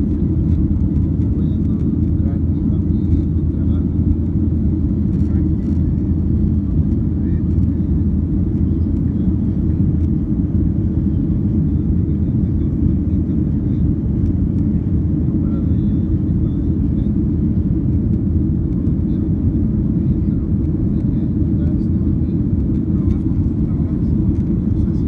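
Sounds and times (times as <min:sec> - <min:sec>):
jet engines droning in cabin: 0:00.0 - 0:25.0.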